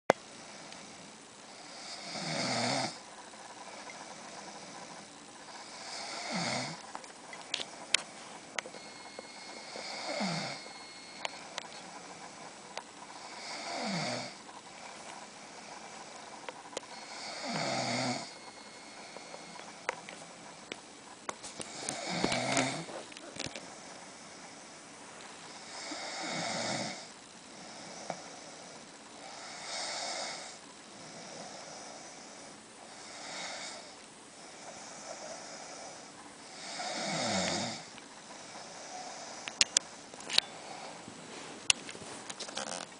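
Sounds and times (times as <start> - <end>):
person snoring: 0.4 - 6.8, 7.6 - 20.0, 21.6 - 24.6, 25.5 - 39.6, 42.5 - 42.9.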